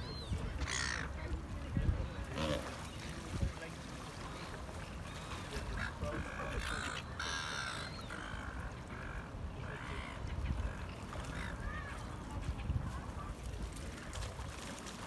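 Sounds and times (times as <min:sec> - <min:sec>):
water birds squawking: 0:00.0 - 0:12.4.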